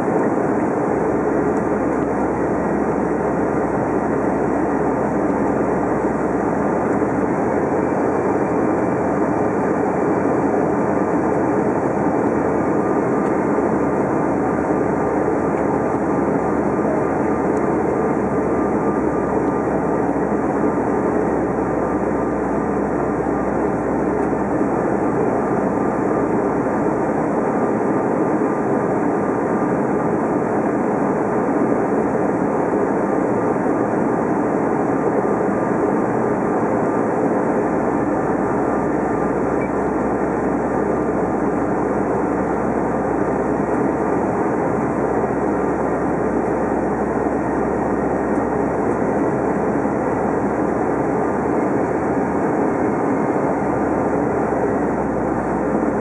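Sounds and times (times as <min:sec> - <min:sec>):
faint steady whine: 0:00.0 - 0:56.0
jet engines and rushing airflow: 0:00.0 - 0:56.0.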